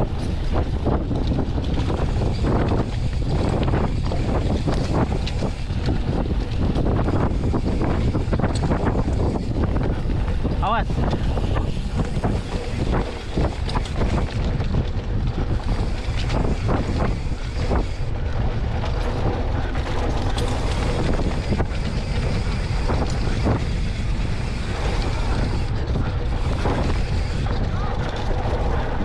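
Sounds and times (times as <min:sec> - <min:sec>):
bike knocks and rattles: 0:00.0 - 0:29.0
bike tyres rolling on dirt: 0:00.0 - 0:29.0
wind buffeting microphone: 0:00.0 - 0:29.0.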